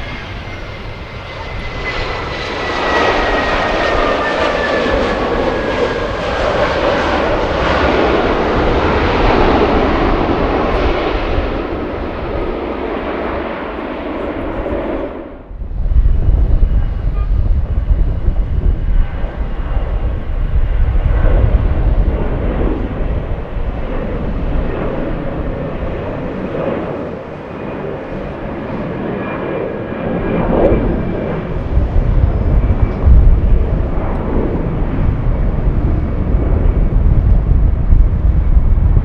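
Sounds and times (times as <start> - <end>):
jet engines rushing: 0.0 - 39.0.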